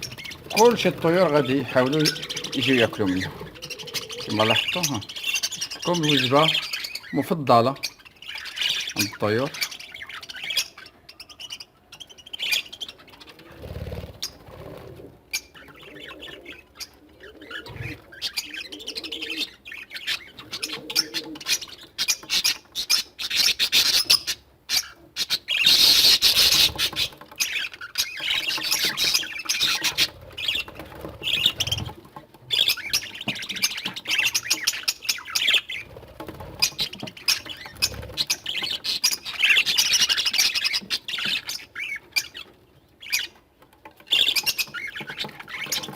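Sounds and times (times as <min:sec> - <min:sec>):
pet birds chattering and squawking: 0:00.0 - 0:45.9.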